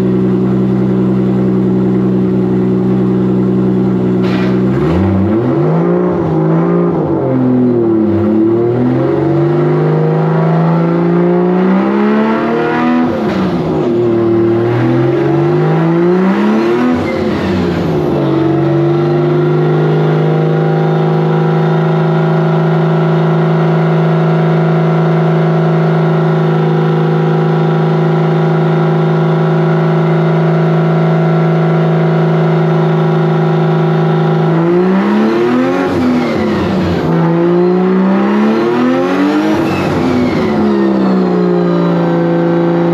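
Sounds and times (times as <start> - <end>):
car engine revving: 0.0 - 42.9.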